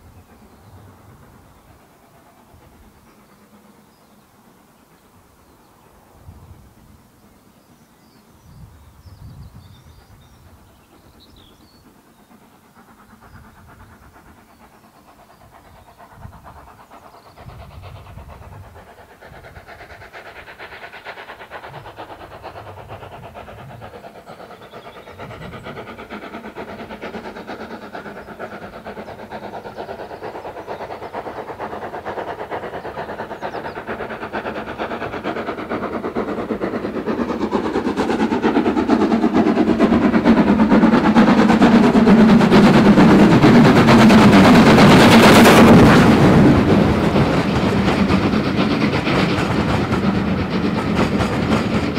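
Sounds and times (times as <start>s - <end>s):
steam locomotive exhaust beat: 0.0s - 51.9s.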